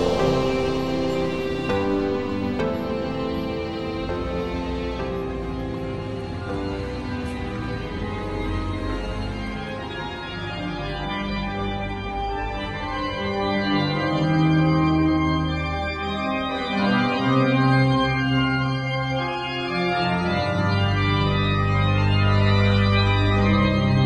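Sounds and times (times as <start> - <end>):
organ playing slow chords: 0.0 - 24.0.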